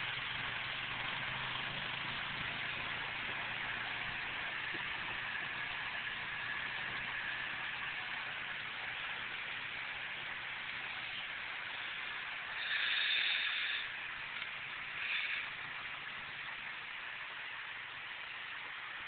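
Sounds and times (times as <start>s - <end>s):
faint engine hum: 0.0s - 19.0s.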